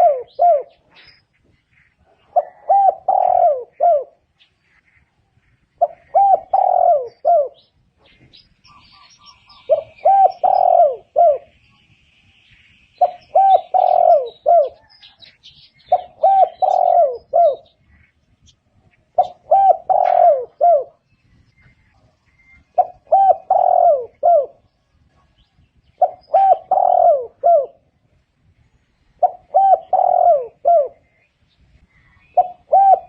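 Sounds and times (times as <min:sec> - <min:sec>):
dove cooing: 0:00.0 - 0:01.2, 0:01.9 - 0:05.0, 0:05.7 - 0:11.6, 0:13.0 - 0:18.0, 0:18.8 - 0:28.0, 0:29.2 - 0:33.0
small birds chirping: 0:00.0 - 0:33.0.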